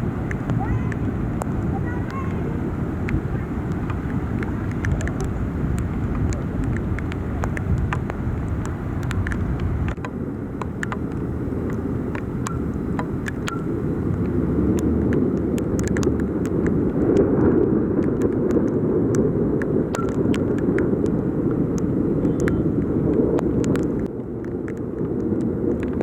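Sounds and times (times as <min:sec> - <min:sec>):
car rumbling on flooded street: 0:00.0 - 0:26.0
sharp raindrop taps: 0:00.0 - 0:26.0
torrential rain: 0:00.0 - 0:26.0.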